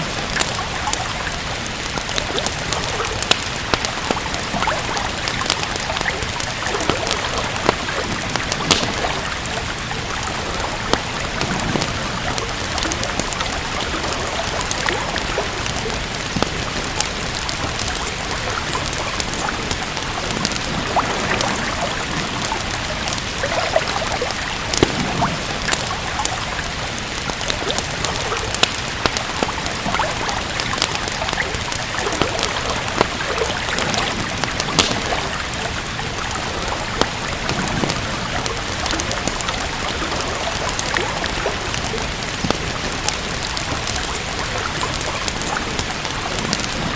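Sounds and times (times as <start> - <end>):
steady rain: 0.0 - 46.9
wood fire crackling: 0.0 - 46.9.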